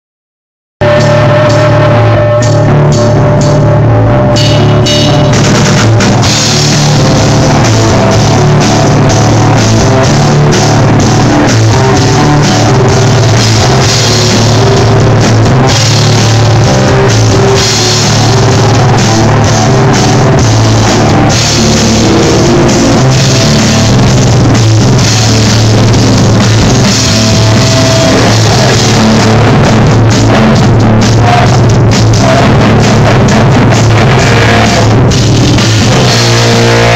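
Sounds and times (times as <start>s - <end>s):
drum kit: 0.8s - 36.9s
live rock band playing: 0.8s - 36.9s.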